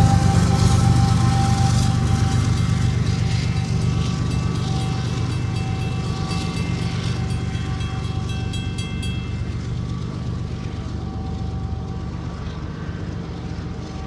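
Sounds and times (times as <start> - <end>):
railroad crossing bell ringing: 0.0 - 12.6
freight train rumble: 0.0 - 14.0.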